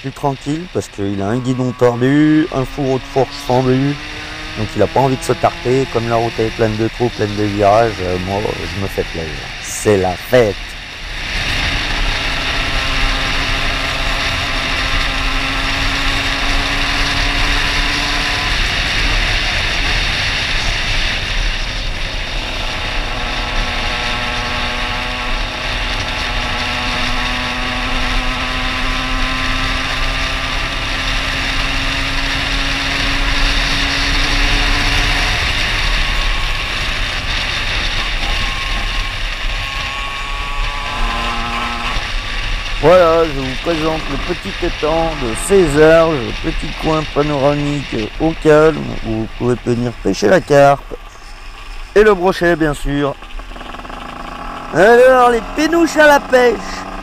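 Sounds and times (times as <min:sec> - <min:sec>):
rush of wind: 0:00.0 - 0:54.4
moped engine accelerating: 0:00.0 - 0:57.0.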